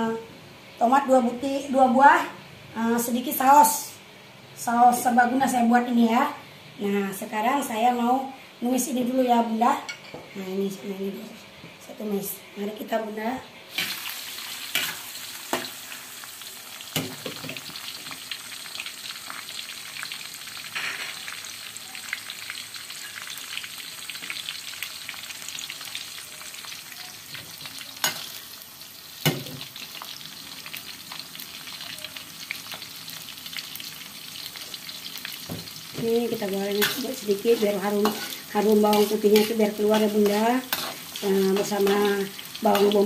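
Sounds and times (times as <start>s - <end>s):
garlic and onion sizzling in oil: 0.0s - 43.0s.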